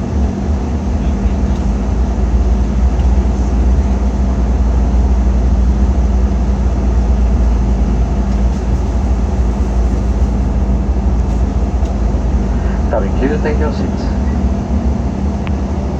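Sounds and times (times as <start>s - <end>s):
airliner cabin engine noise: 0.0s - 15.9s.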